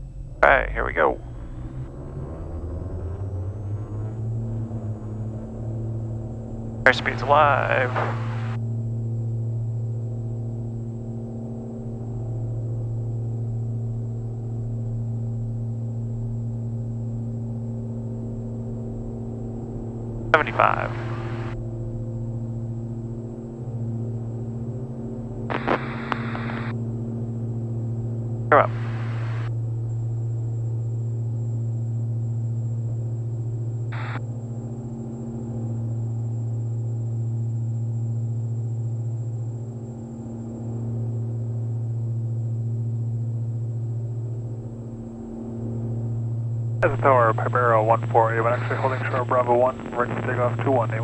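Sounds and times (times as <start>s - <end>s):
airplane engines droning: 0.0s - 10.8s, 18.1s - 51.0s.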